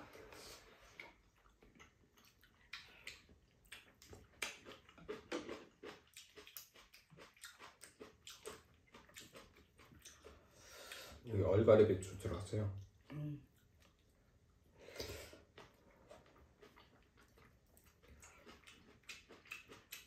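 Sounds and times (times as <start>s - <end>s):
slurping and chewing: 0.1s - 11.3s, 12.8s - 20.0s.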